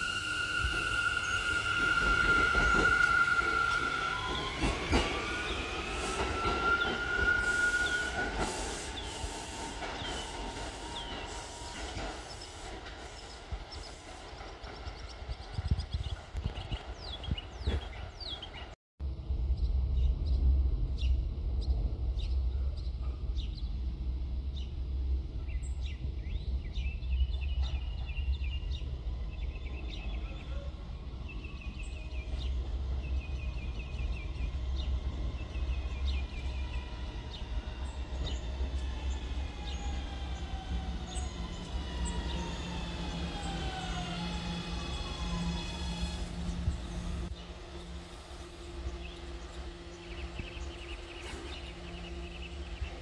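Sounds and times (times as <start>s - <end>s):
subway train rumbling: 0.0s - 53.0s.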